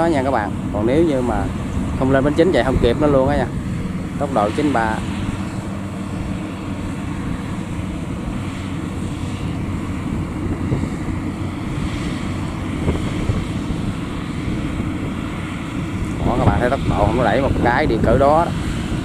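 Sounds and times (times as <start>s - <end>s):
combine harvester engine drone: 0.0s - 19.0s
wind buffeting microphone: 0.0s - 19.0s.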